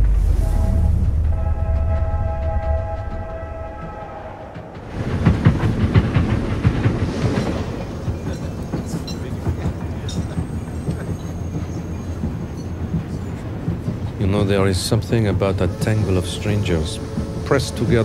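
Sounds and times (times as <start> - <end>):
train rumble: 0.0 - 18.0
train wheels clattering on rails: 0.8 - 18.0.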